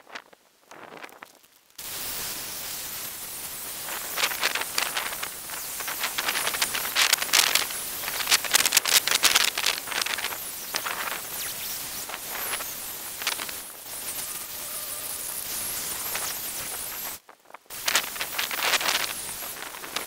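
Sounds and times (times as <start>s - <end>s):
flame crackling on wood: 0.7s - 14.2s, 15.2s - 20.0s
gas torch hissing: 1.8s - 20.0s.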